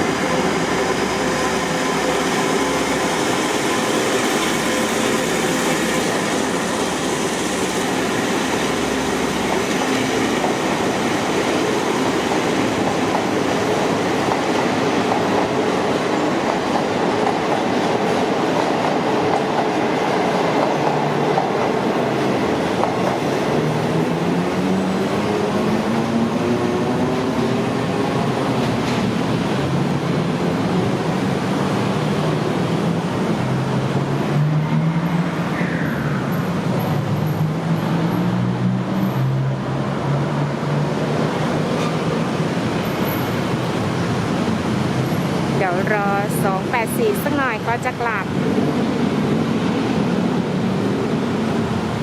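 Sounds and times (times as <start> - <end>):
train rumbling on track: 0.0 - 52.0.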